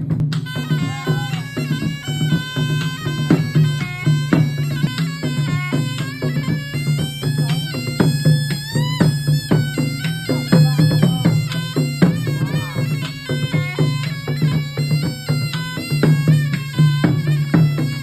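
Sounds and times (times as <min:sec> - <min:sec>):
hand drums beating: 0:00.0 - 0:18.0
shrill double-reed shawm melody: 0:00.0 - 0:18.0.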